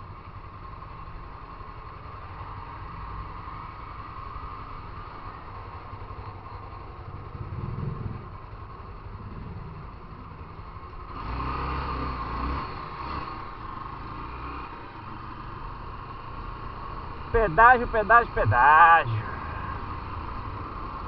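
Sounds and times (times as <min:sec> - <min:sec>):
motorcycle running: 0:00.0 - 0:21.0
road noise: 0:00.0 - 0:21.0.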